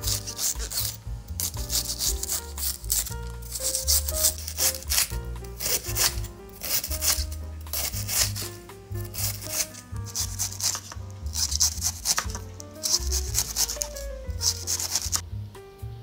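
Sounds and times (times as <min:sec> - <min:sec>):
knife slicing cabbage on board: 0:00.0 - 0:15.2
background music with bass: 0:00.0 - 0:16.0.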